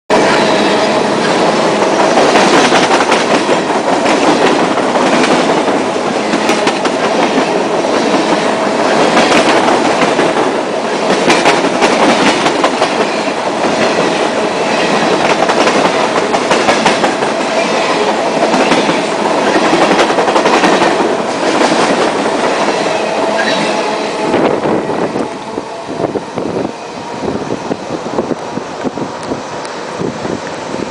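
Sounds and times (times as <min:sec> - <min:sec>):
train wheels rumbling on rails: 0:00.1 - 0:30.9.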